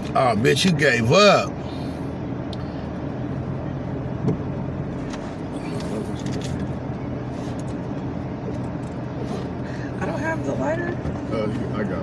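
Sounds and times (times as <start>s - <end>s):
car engine humming inside cabin: 0.0s - 12.0s.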